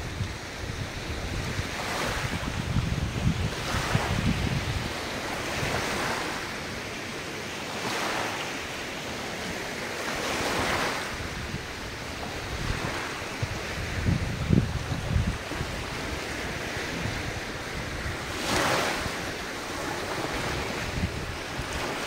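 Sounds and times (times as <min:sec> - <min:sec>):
wind rumbling on microphone: 0:00.0 - 0:07.0, 0:09.2 - 0:22.0
ocean waves washing ashore: 0:00.0 - 0:22.0.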